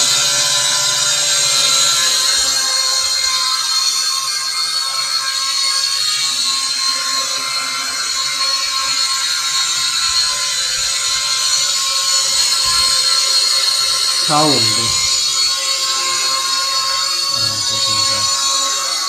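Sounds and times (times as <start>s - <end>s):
toy quadcopter motors whining: 0.0s - 19.0s.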